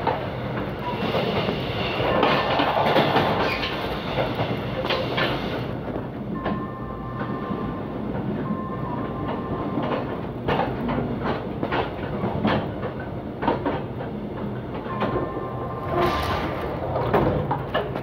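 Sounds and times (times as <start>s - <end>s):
wheels clacking over rail joints: 0.0s - 6.6s, 9.3s - 18.0s
train wheels rumbling on rails: 0.0s - 18.0s.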